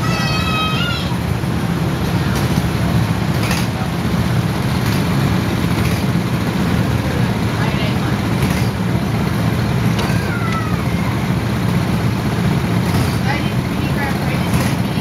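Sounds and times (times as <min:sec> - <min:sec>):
go-kart engines idling: 0:00.0 - 0:15.0.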